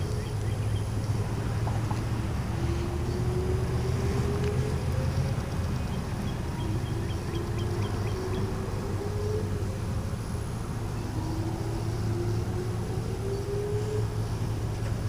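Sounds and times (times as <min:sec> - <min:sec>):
distant sirens wailing: 0:02.1 - 0:15.0.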